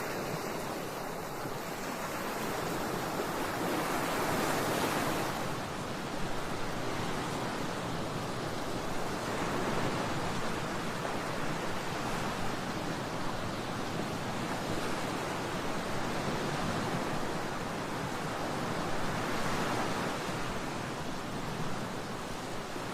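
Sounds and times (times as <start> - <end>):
ocean waves rushing surf: 0.0 - 22.9.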